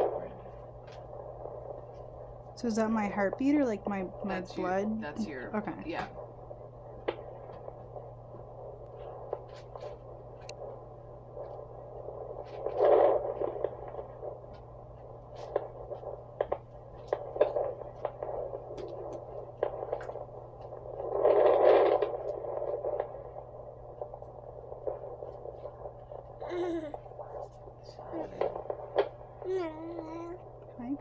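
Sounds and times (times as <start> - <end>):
doppler speaker hissing and crackling: 0.0 - 31.0
steady hum: 0.0 - 31.0.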